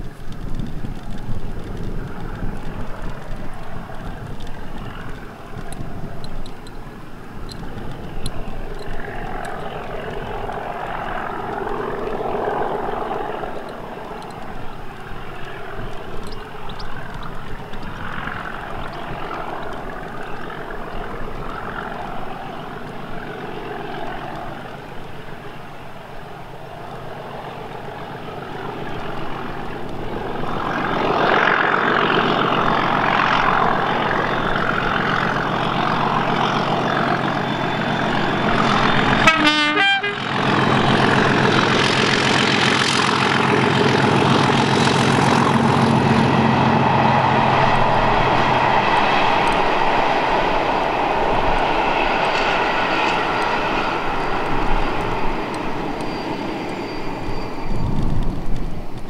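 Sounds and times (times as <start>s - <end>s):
diesel locomotive engine under power: 0.0s - 59.0s
wind buffeting microphone: 0.0s - 59.0s.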